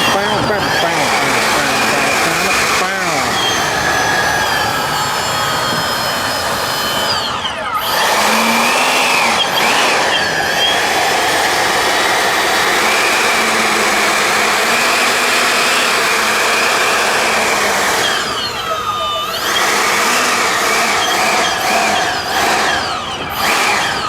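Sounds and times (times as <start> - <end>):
electric ducted fans whining: 0.0 - 24.0.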